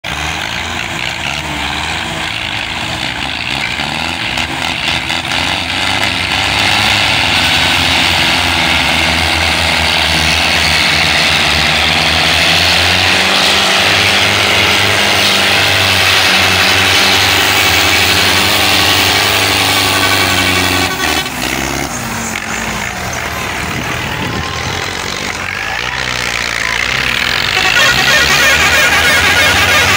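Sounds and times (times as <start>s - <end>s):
diesel tractor engines under load: 0.0s - 29.9s
crowd voices: 0.4s - 29.9s.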